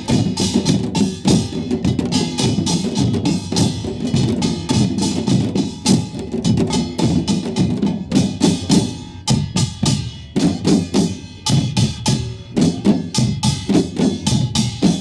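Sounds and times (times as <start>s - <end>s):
drum beats: 0.0s - 15.0s.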